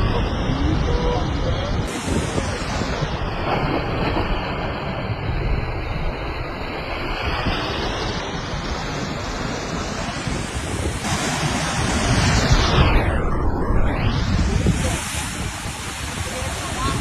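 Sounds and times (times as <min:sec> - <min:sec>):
sea waves breaking: 0:00.0 - 0:17.0
wind on microphone: 0:00.0 - 0:17.0.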